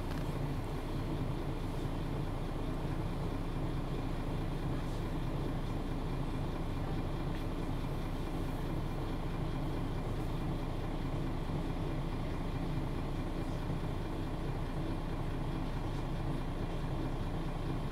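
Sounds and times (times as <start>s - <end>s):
bus engine hum: 0.0s - 17.9s
road and cabin noise: 0.0s - 17.9s.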